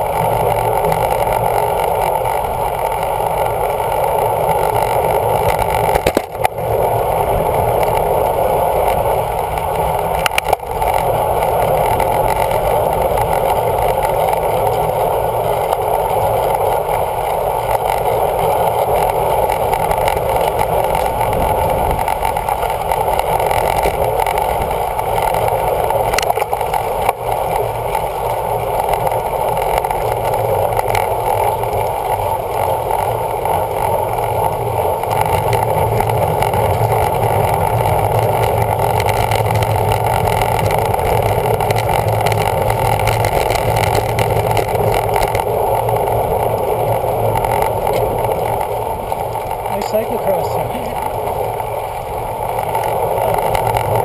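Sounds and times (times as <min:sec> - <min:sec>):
road noise: 0:00.0 - 0:54.0
rushing wind: 0:00.0 - 0:54.0.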